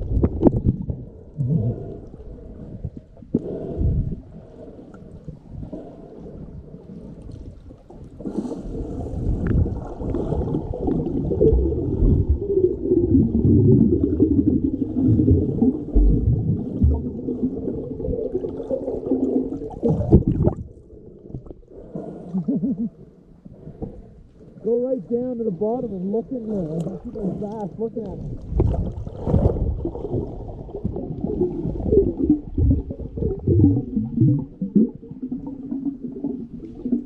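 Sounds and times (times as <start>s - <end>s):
underwater gurgling and bubbling: 0.0s - 24.1s, 25.8s - 37.0s.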